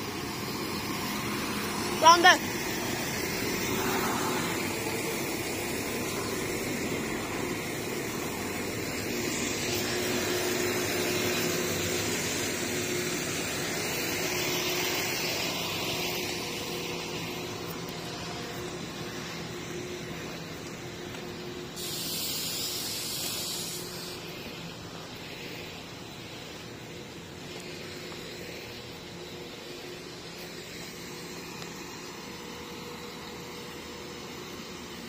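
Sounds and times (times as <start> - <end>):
train passing: 0.0 - 35.0.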